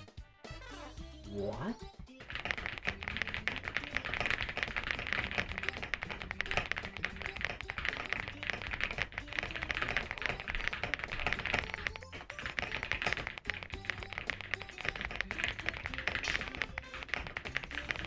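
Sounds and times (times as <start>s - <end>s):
fast mechanical keyboard typing: 2.2s - 18.0s.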